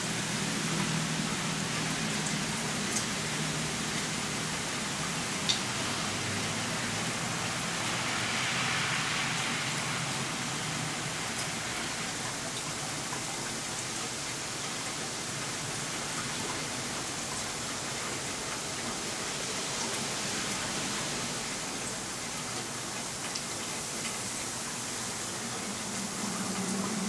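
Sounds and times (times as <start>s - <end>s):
hiss of falling precipitation: 0.0s - 27.0s.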